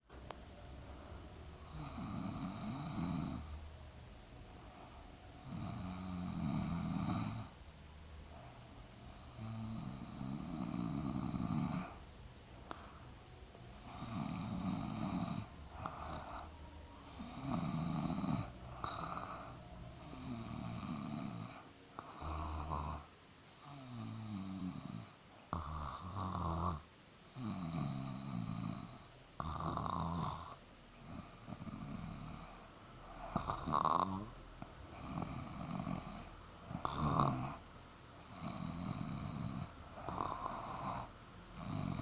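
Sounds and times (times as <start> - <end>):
person snoring: 1.6 - 3.6, 4.8 - 7.6, 8.3 - 12.0, 13.7 - 37.6, 38.2 - 42.0.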